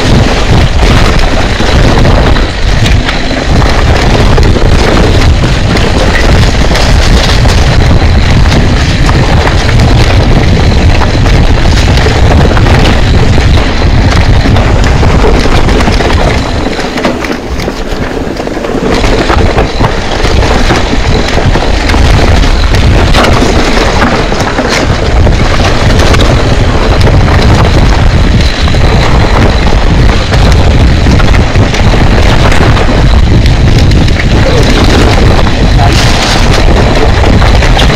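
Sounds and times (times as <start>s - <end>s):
mountain bike rumble and rattle: 0.0s - 37.9s
wind buffeting microphone: 0.0s - 37.9s.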